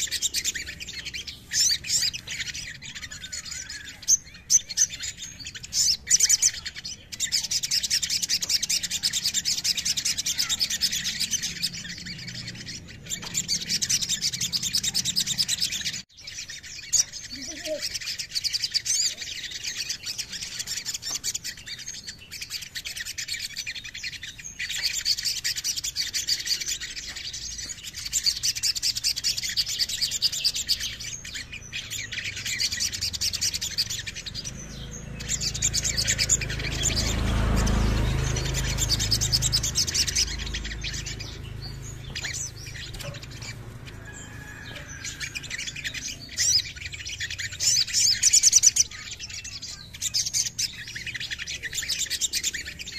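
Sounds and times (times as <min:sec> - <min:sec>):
bird twittering trills: 0:00.0 - 0:52.9.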